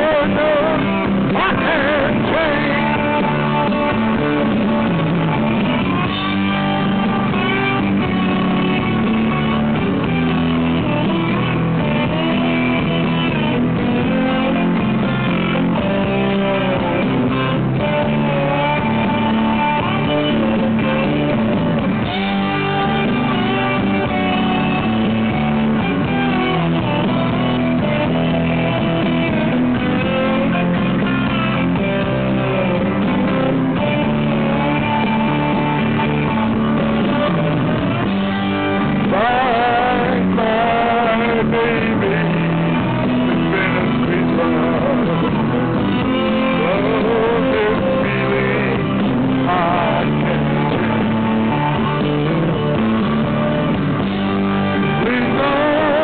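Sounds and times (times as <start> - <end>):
gliding lead guitar melody: 0.0 - 56.0
slow rock ballad instrumental: 0.0 - 56.0.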